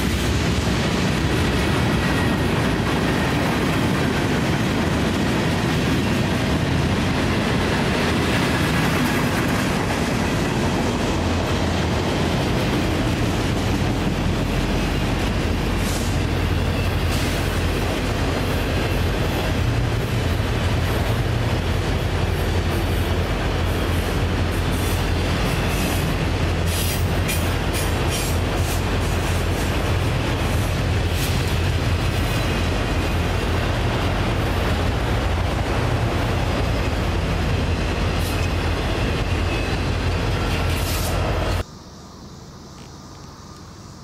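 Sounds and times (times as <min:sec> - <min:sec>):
wheels clicking on rail joints: 0:00.0 - 0:41.6
steel wheels rumbling on rail: 0:00.0 - 0:41.7.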